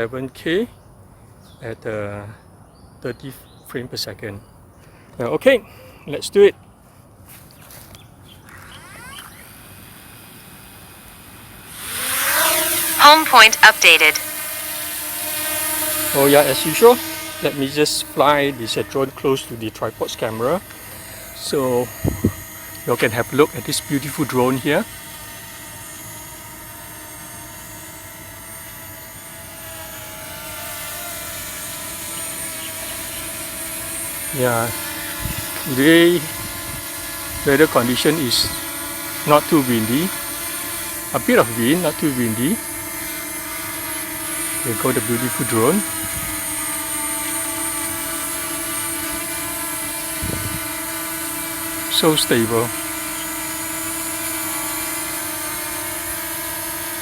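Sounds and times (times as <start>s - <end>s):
drone propellers whining: 8.2s - 57.0s.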